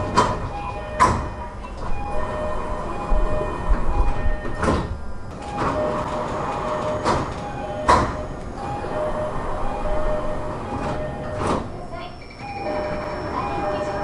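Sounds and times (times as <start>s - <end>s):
sliding doors operating: 0.0s - 14.0s
three-tone train door chime: 0.0s - 14.0s.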